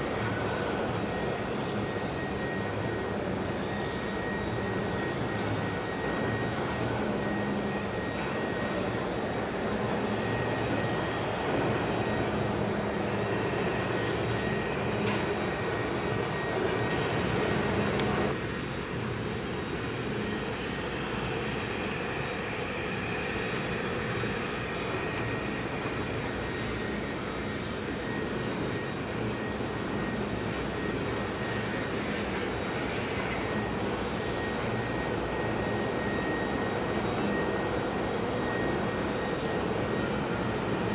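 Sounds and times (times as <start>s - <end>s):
distant boat engine drone: 0.0s - 40.9s.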